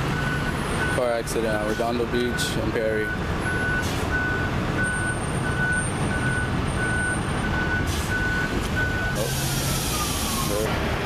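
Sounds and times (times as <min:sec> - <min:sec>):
reversing alarm beeping: 0:00.0 - 0:10.7
low traffic rumble: 0:00.0 - 0:11.0.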